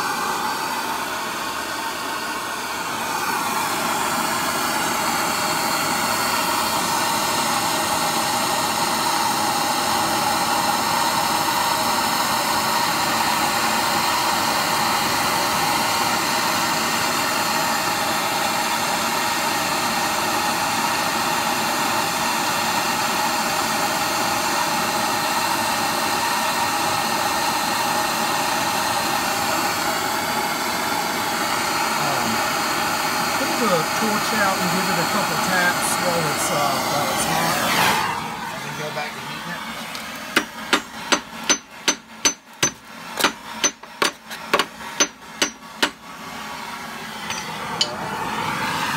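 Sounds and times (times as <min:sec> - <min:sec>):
gas torch hissing: 0:00.0 - 0:48.9.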